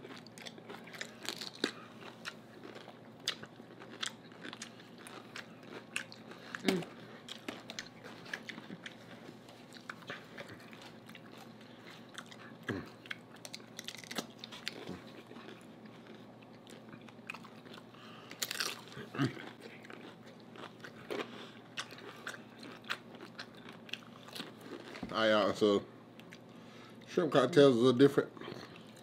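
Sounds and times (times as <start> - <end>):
chewing and crunching chips: 0.0 - 27.2, 28.4 - 29.0.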